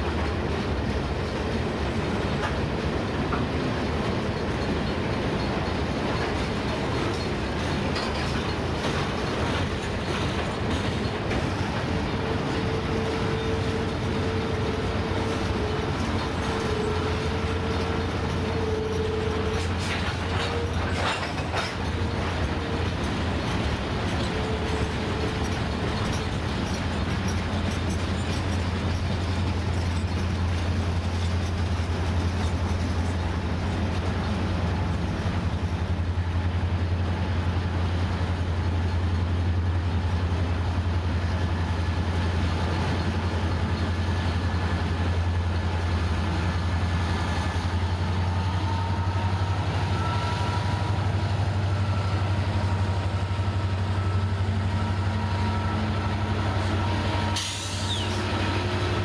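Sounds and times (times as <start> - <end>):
diesel locomotive passing: 0.0 - 59.0
freight cars rumbling: 0.0 - 59.0
high wheel squeals: 3.8 - 34.8, 41.9 - 59.0.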